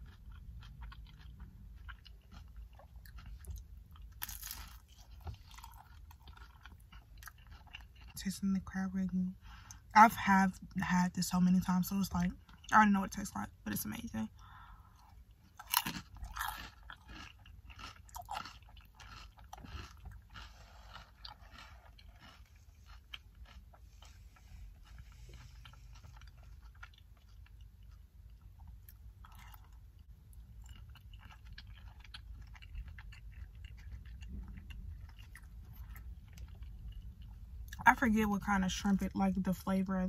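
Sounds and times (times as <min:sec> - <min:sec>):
crunching and chewing food: 0:00.0 - 0:09.9, 0:10.5 - 0:40.0
low steady rumble: 0:00.0 - 0:40.0.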